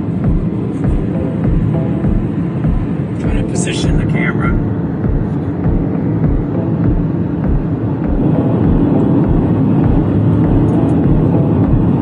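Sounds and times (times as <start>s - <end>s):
car driving rumble from inside: 0.0s - 12.0s.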